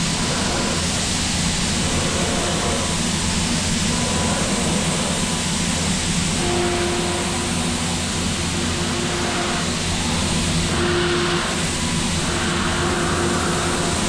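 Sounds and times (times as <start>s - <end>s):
milling machine spindle noise: 0.0s - 14.0s.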